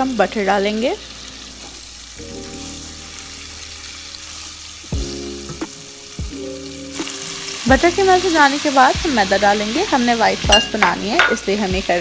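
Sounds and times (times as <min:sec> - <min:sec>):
butter sizzling in a pan: 0:00.0 - 0:12.0
soft background music: 0:00.0 - 0:12.0.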